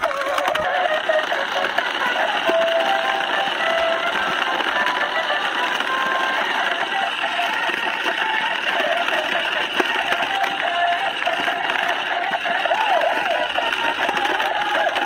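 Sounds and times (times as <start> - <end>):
electronic song from toy speaker: 0.0 - 15.0
toy motor and gears whirring: 0.0 - 15.0.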